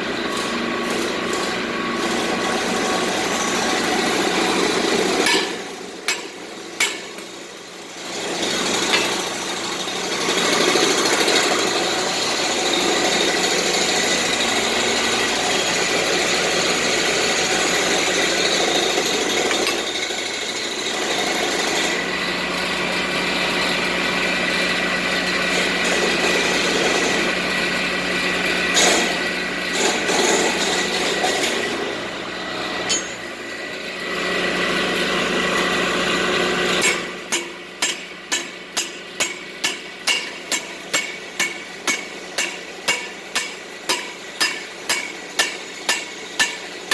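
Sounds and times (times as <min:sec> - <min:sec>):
power tool running on metal: 0:00.0 - 0:46.9.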